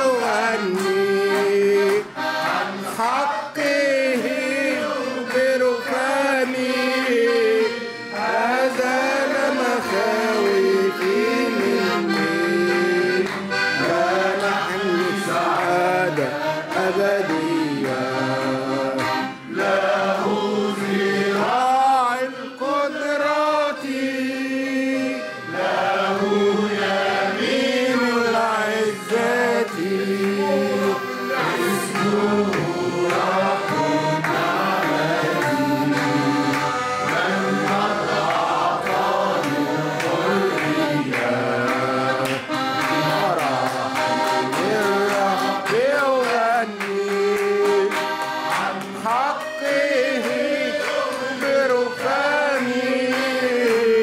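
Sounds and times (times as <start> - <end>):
accordion chords: 0.0 - 54.0
person singing a hymn: 0.0 - 54.0.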